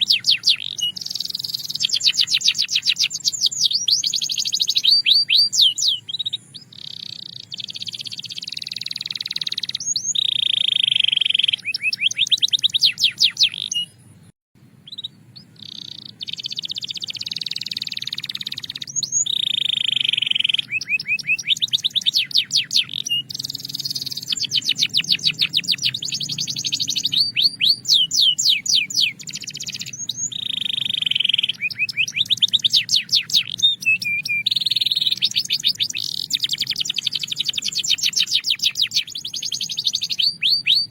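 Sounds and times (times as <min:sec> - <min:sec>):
canary singing whistles and trills: 0:00.0 - 0:40.9.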